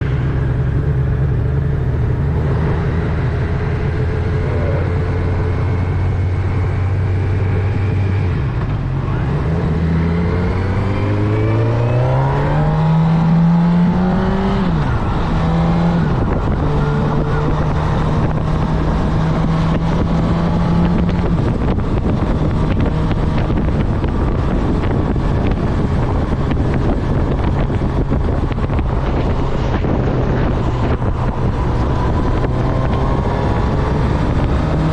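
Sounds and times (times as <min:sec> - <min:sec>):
motorcycle engine revving: 0:00.0 - 0:34.9
wind rushing over microphone: 0:00.0 - 0:34.9.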